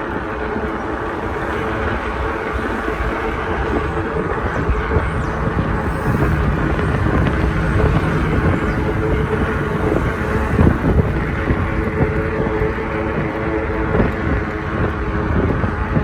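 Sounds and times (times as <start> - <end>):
city traffic: 0.0 - 16.0
constant low hum: 0.0 - 16.0
road noise: 0.0 - 16.0.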